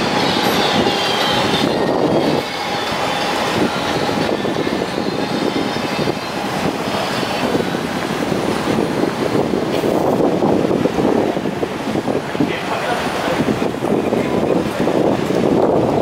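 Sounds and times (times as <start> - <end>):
street noise: 0.0 - 16.0
train rumbling past: 0.0 - 16.0.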